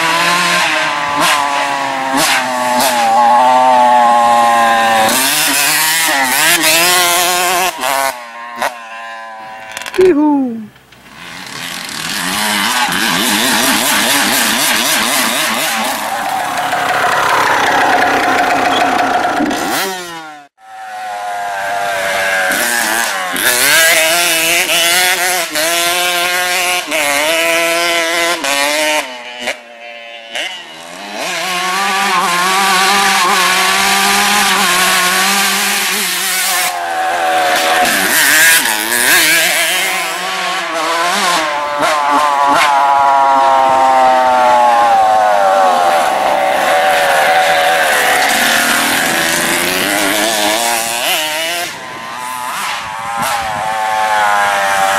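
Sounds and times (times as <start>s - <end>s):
two-stroke motorcycle engine revving: 0.0s - 10.2s, 11.0s - 54.9s.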